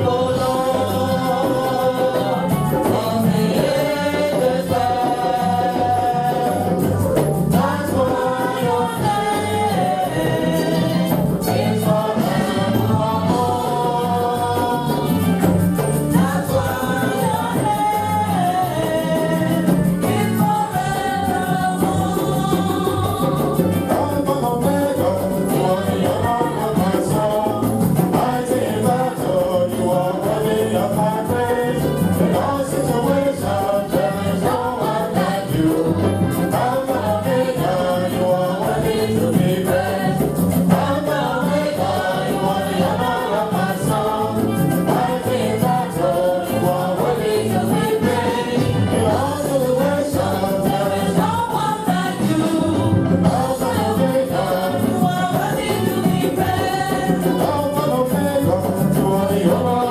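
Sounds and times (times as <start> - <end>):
choir singing gospel song: 0.0 - 59.9
rhythmic accompaniment with beat: 0.0 - 59.9.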